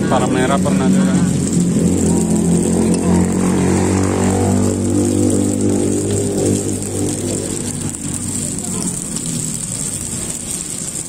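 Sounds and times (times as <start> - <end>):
motor vehicle engine humming: 0.0 - 11.0.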